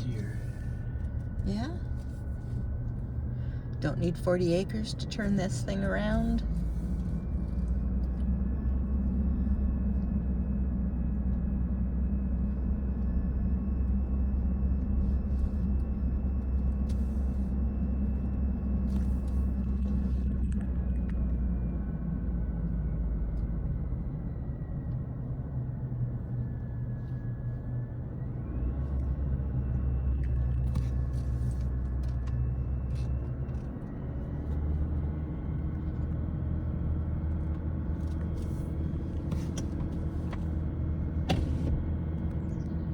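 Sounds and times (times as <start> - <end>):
car engine from inside cabin: 0.0 - 42.9
road noise: 0.0 - 42.9.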